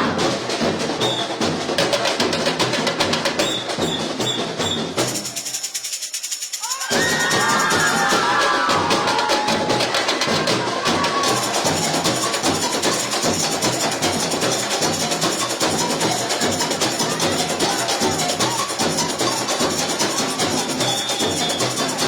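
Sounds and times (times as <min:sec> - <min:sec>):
samba percussion groove: 0:00.0 - 0:22.0.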